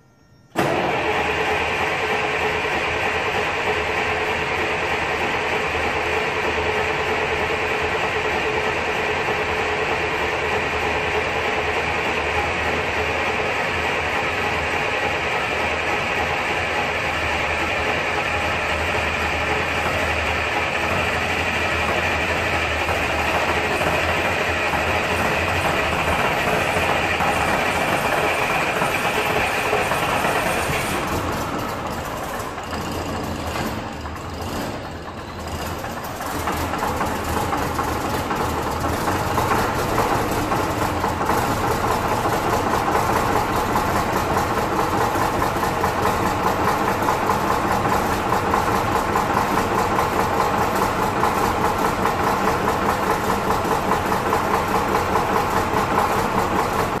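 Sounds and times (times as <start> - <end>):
diesel bus engine starting and running: 0.0 - 57.0.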